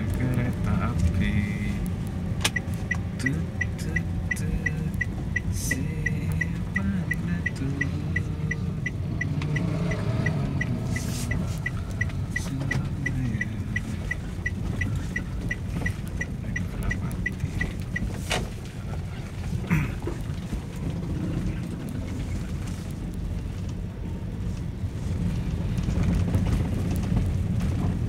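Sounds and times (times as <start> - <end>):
low rumble of car and motorbikes: 0.0 - 28.0.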